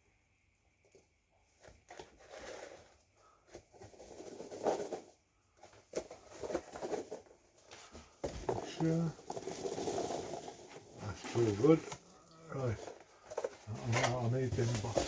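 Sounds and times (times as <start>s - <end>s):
packaging rustling and crinkling: 1.6s - 15.0s.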